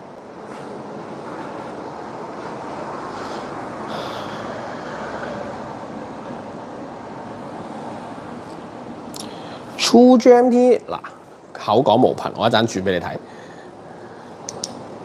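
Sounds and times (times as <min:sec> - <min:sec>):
shop ambience rushing noise: 0:00.0 - 0:15.0.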